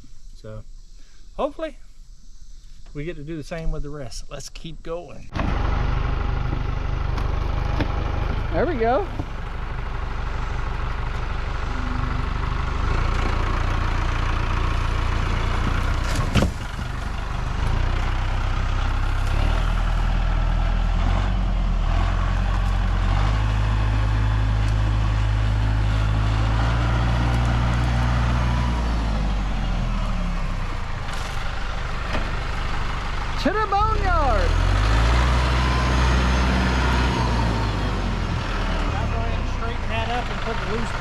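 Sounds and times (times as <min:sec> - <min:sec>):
tractor engine running: 0:05.4 - 0:41.0.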